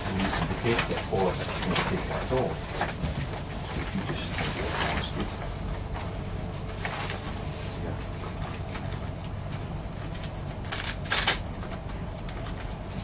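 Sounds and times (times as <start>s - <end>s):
plastic hood rustling and crinkling: 0.0s - 13.0s
steady low hum: 0.0s - 13.0s.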